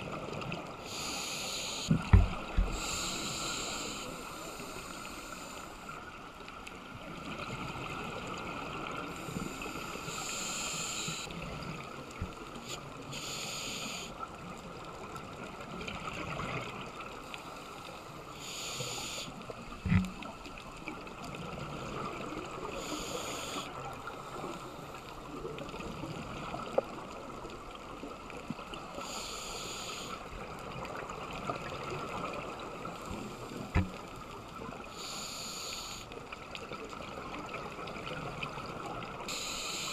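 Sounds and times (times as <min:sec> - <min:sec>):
steady underwater hiss: 0:00.0 - 0:39.9.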